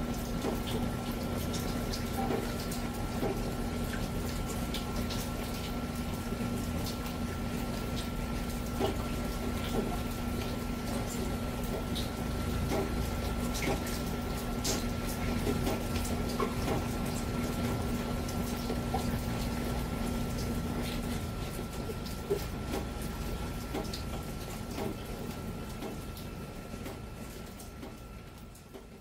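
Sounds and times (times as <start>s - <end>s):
dripping water: 0.0s - 29.0s.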